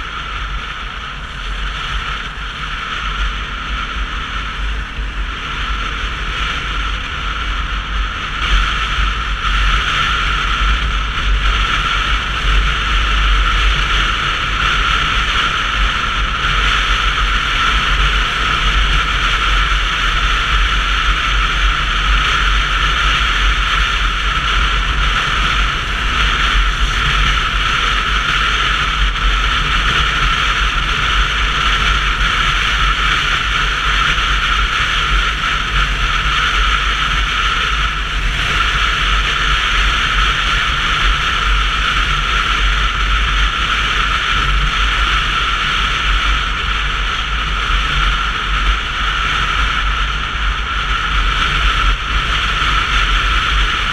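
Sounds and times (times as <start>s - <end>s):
road noise rumble: 0.0s - 53.9s
wind noise: 0.0s - 53.9s.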